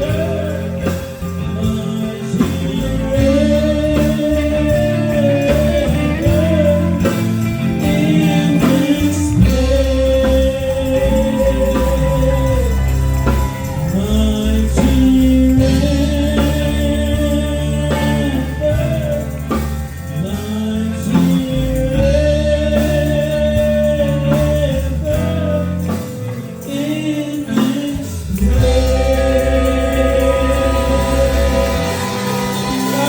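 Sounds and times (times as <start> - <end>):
gospel singing: 0.0 - 33.0
instrumental accompaniment: 0.0 - 33.0.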